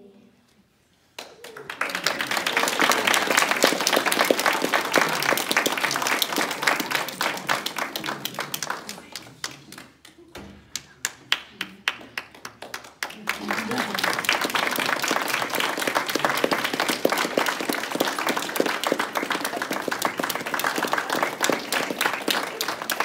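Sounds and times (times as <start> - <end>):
audience applauding: 1.2 - 23.0.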